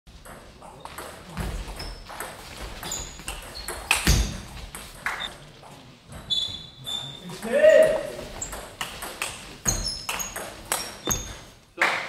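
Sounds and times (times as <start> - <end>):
shoes squeaking on floor: 0.2 - 11.7.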